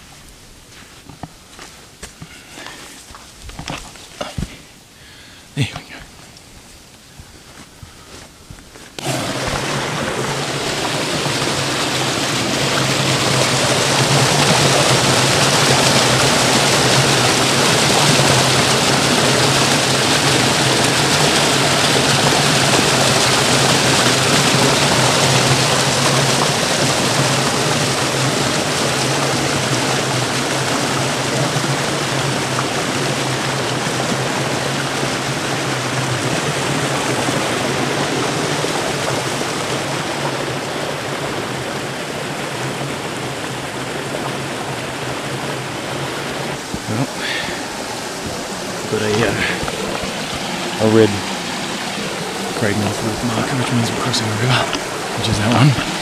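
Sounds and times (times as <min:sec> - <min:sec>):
small waterfall rushing: 0:08.7 - 0:56.0.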